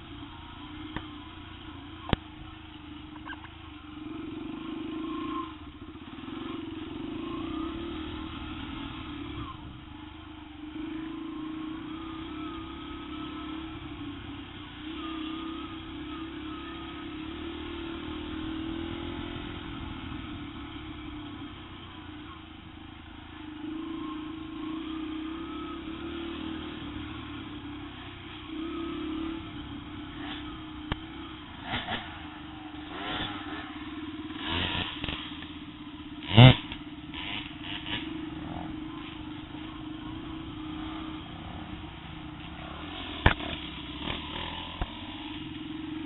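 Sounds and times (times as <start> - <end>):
dirt bike engine: 0.0 - 46.0.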